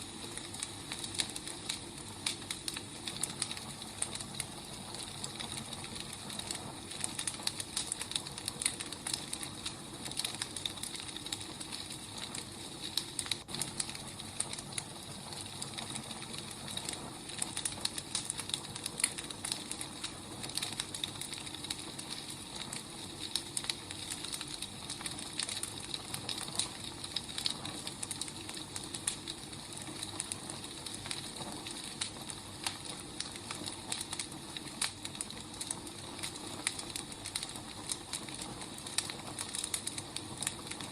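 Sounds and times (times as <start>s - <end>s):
wood fire crackling and hissing: 0.0s - 40.9s.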